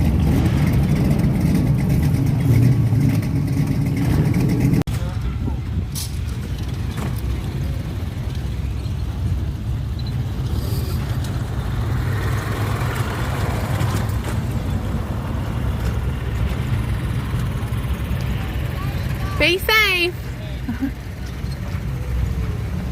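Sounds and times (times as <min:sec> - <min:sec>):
car engine rumbling: 0:00.0 - 0:22.9.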